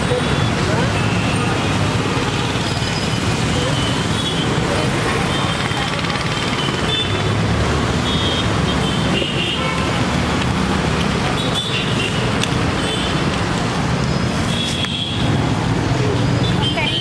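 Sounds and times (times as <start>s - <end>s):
passing vehicle engines: 0.0s - 17.0s.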